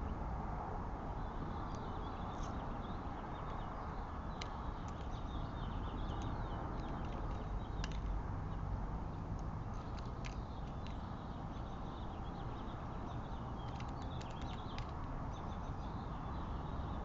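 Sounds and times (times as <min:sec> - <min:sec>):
small birds chirping: 0:01.0 - 0:17.0.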